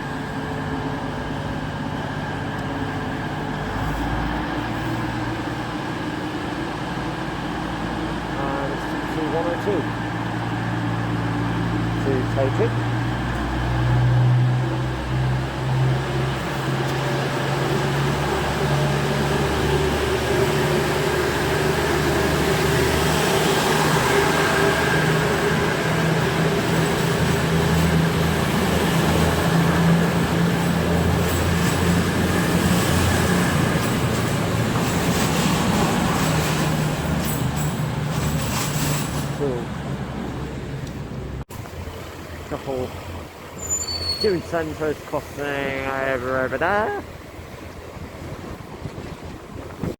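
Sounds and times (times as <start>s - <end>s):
train diesel engines running: 0.0s - 49.9s
train wheel and rail noise: 0.0s - 49.9s.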